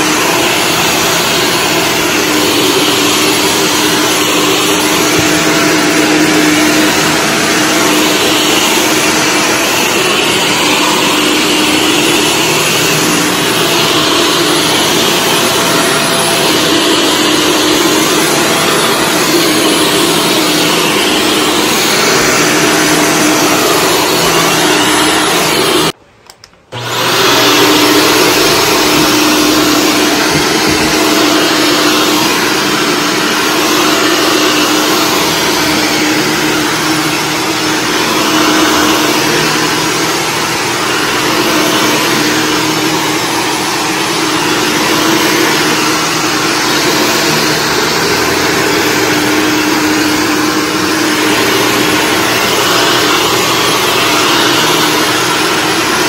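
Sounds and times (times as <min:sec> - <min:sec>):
vacuum cleaner running on carpet: 0:00.0 - 0:26.0, 0:26.7 - 0:56.0.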